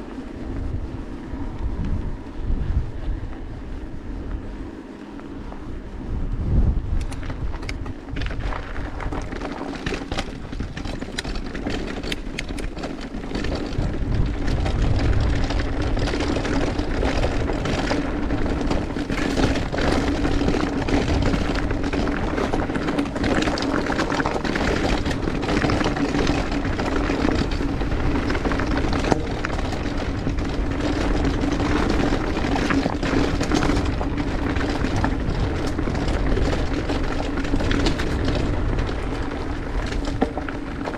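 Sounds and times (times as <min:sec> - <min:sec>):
bike rattling and clattering: 0:00.0 - 0:40.9
tyres rolling over stones and gravel: 0:07.1 - 0:40.9.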